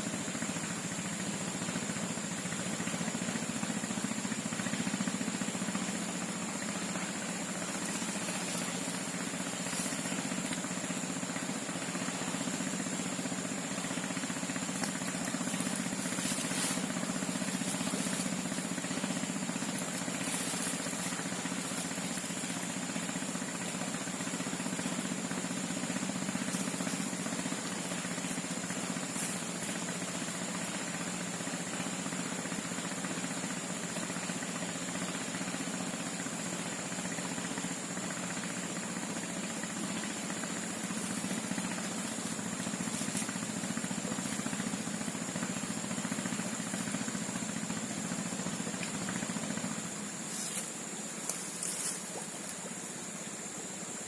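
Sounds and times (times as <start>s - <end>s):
low engine-like hum: 0.0s - 54.0s.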